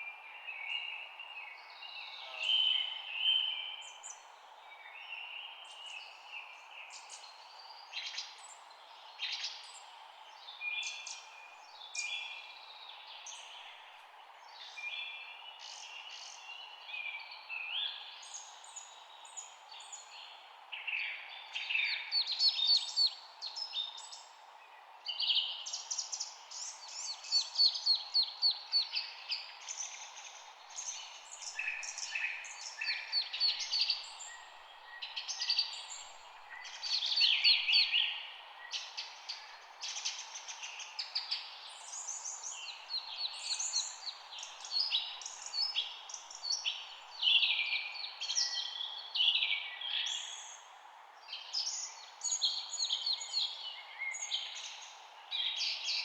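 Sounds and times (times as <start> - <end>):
songbirds singing and chirping: 0.0 - 56.0
steady background hiss: 0.1 - 56.0.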